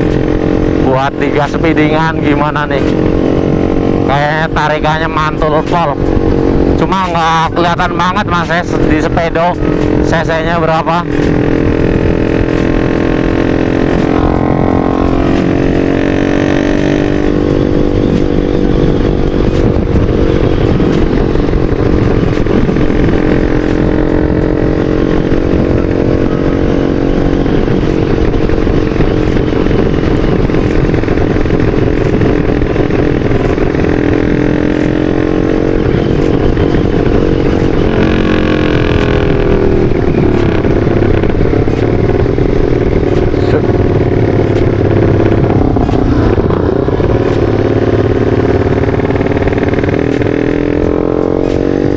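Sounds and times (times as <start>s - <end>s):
motorcycle engine running: 0.0s - 51.9s
wind rumble on microphone: 0.0s - 51.9s.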